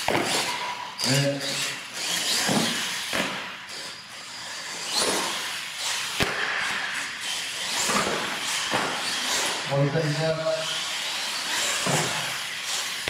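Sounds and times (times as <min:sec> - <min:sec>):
toy truck electric motors: 0:00.0 - 0:13.0.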